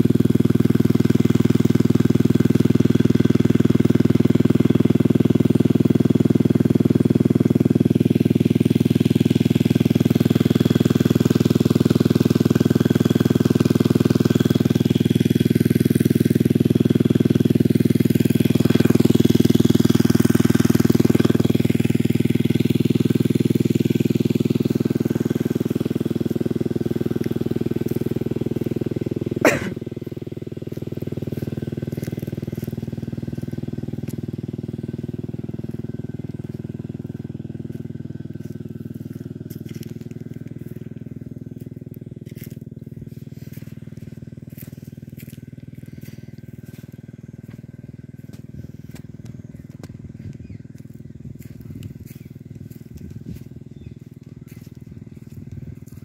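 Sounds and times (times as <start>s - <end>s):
pump engine running: 0.0s - 56.0s.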